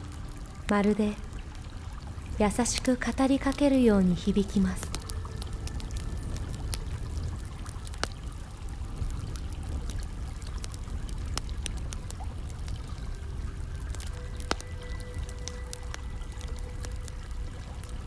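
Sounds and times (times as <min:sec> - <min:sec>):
campfire crackling and popping: 0:00.0 - 0:18.0
low steady rumble: 0:00.0 - 0:18.0.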